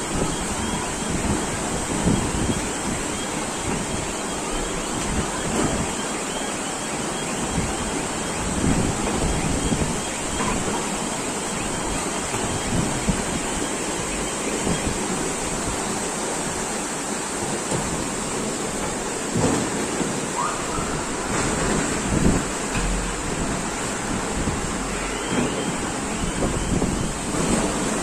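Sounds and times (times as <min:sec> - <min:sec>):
wind gusting on microphone: 0:00.0 - 0:06.0, 0:07.3 - 0:16.8, 0:18.4 - 0:28.0
floodwater rushing: 0:00.0 - 0:28.0.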